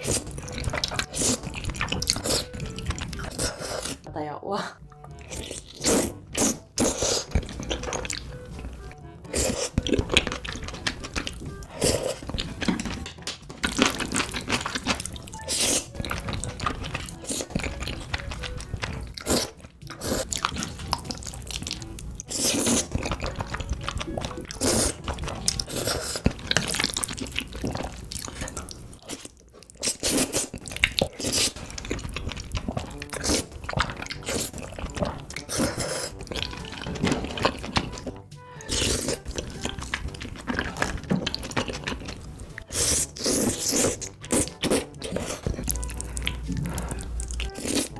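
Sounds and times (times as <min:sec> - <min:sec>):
crunchy chewing of food: 0:00.0 - 0:04.1, 0:04.9 - 0:47.9
background music: 0:00.0 - 0:47.9.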